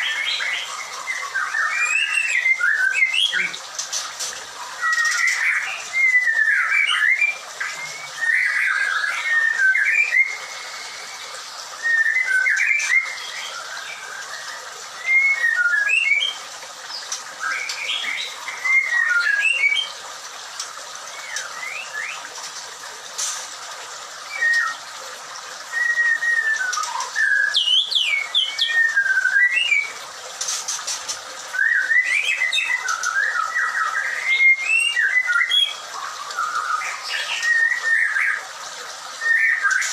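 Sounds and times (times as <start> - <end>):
bird singing gliding whistles: 0.0 - 3.6, 4.7 - 16.4, 17.0 - 20.0, 21.2 - 22.3, 24.2 - 24.9, 25.6 - 30.0, 31.5 - 38.5, 39.2 - 39.9.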